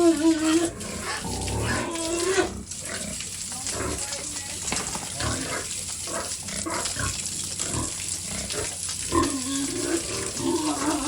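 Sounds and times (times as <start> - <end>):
pig calling: 0.0 - 4.1, 4.7 - 11.0
pigs grunting: 0.0 - 4.1, 4.7 - 11.0.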